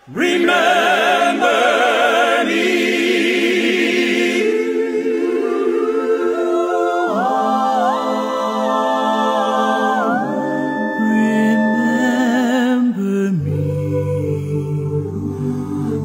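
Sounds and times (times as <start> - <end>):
slow wordless singing: 0.0 - 16.0.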